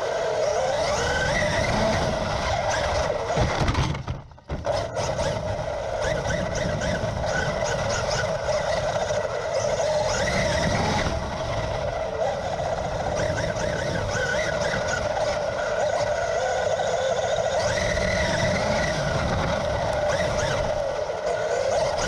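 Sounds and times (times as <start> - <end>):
constant rushing noise: 0.0 - 22.0
electric motor whine: 0.0 - 22.0.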